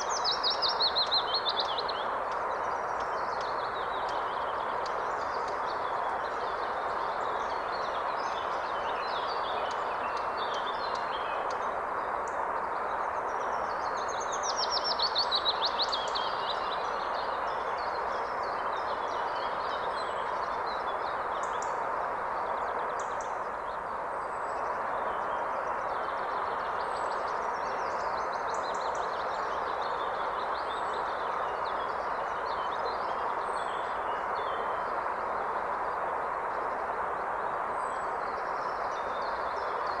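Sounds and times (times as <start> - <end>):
songbirds singing: 0.0 - 40.0.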